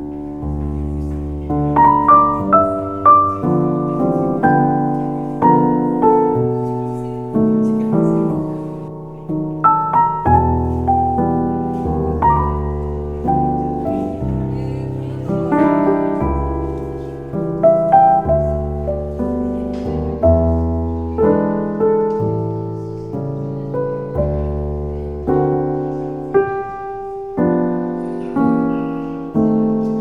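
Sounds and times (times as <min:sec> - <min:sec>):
gentle solo piano music: 0:00.0 - 0:30.0.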